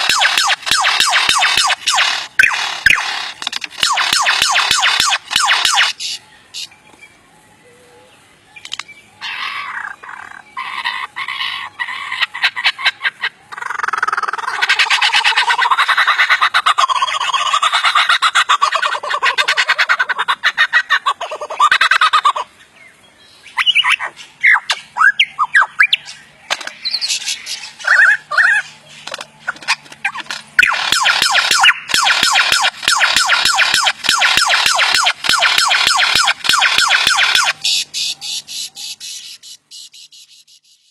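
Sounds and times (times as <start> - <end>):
lyrebird mimicry song: 0.0 - 40.9.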